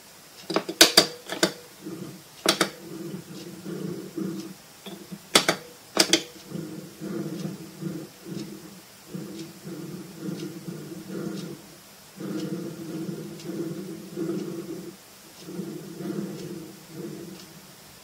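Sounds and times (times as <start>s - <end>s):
trackball ball rolling rumble: 0.0s - 17.8s
sharp clicks: 0.4s - 17.6s.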